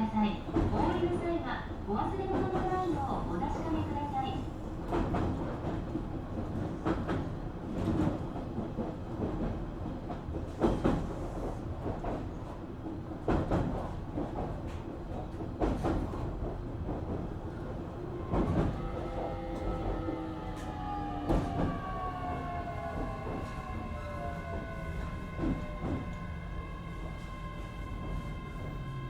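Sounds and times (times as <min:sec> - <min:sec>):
train cabin rumble: 0:00.0 - 0:29.0.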